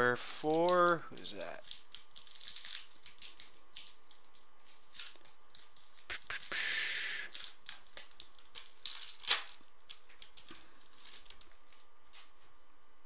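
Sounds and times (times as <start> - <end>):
cards clicking and rustling: 0.4 - 12.3
foil wrapper crinkling: 0.4 - 12.3.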